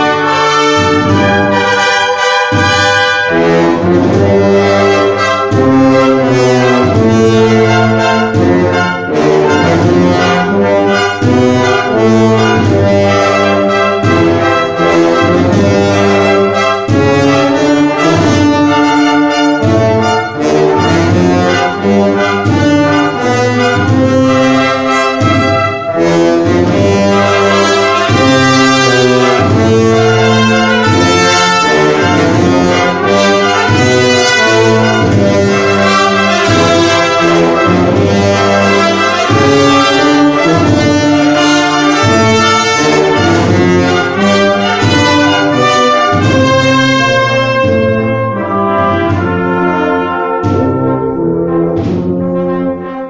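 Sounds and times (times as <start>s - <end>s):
brass ensemble playing: 0.0s - 53.0s.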